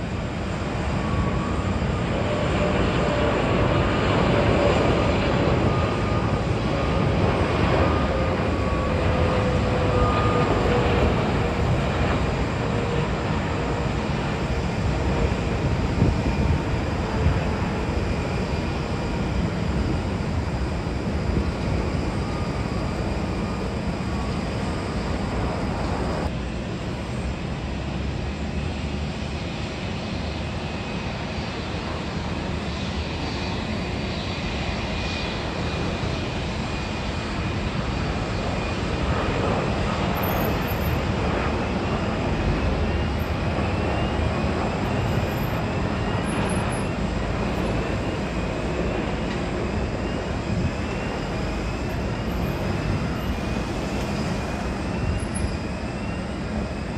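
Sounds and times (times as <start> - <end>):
jet engines rumbling with whine: 0.0 - 56.9.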